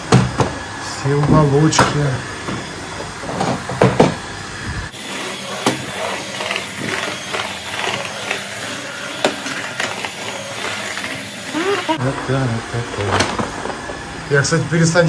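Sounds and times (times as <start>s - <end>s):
wet vacuum cleaner running: 0.0s - 15.0s.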